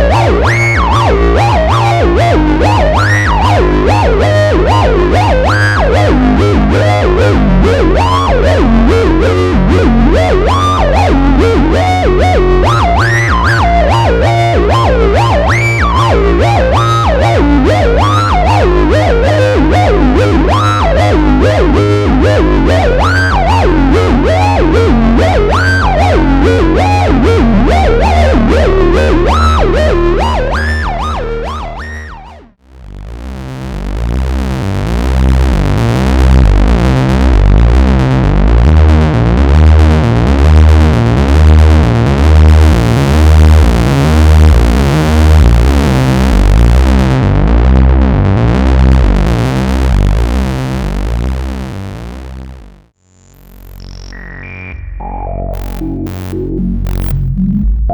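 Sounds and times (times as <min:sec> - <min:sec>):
deep synthesizer bass pattern: 0:00.0 - 0:57.9
distorted synthesizer lead: 0:00.0 - 0:57.9.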